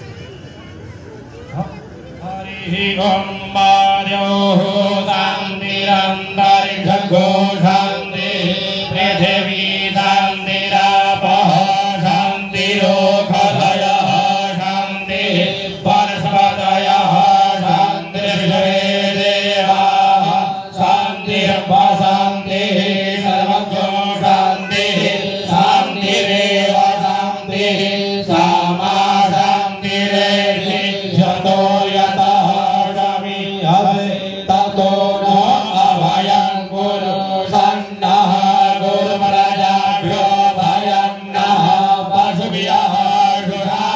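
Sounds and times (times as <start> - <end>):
voices chanting a hymn: 0.0 - 43.9.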